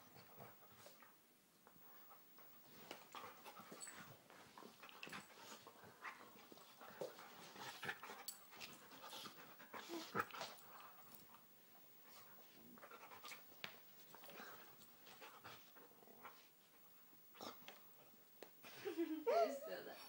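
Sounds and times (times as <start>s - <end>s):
dogs breathing and snuffling: 1.8s - 19.0s.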